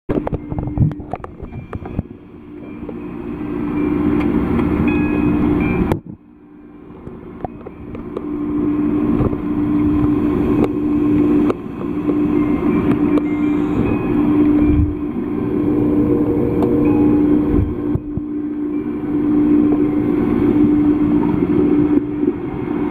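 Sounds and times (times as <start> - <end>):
underwater low hum: 0.1 - 22.9
underwater rushing wash: 0.1 - 22.9.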